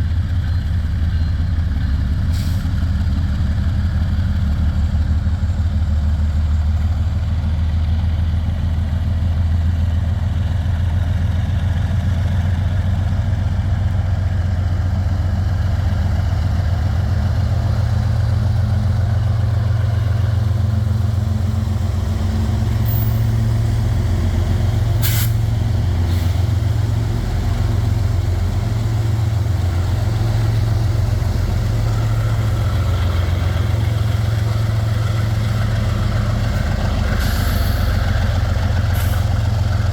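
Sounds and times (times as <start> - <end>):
locomotive diesel engines throbbing: 0.0 - 39.9.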